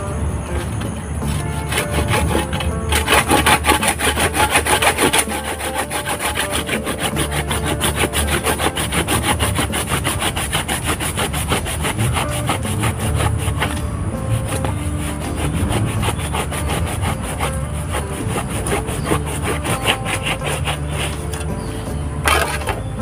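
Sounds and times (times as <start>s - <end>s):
hand saw cutting wood: 1.2s - 23.0s.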